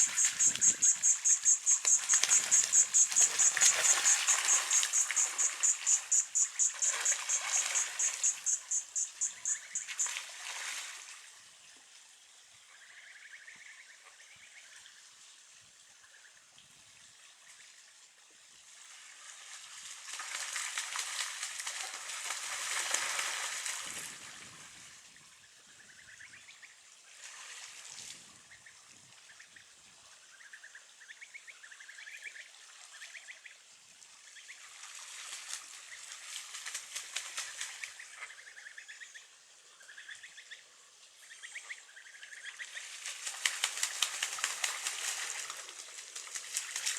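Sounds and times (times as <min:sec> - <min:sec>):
faint water-like rushing: 0:00.0 - 0:46.9.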